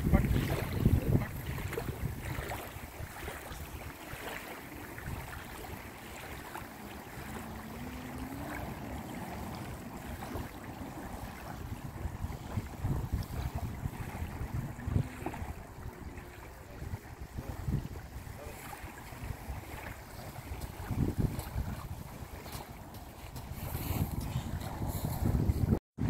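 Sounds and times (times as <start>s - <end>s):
waves lapping on stony shore: 0.0s - 25.8s
wind rumbling on microphone: 0.0s - 26.0s.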